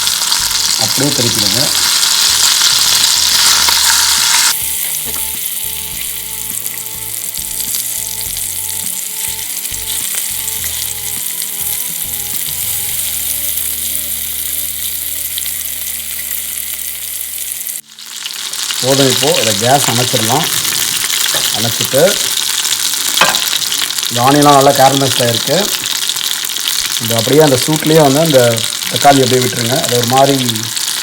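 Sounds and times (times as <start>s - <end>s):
fish sizzling in oil: 0.0s - 31.0s.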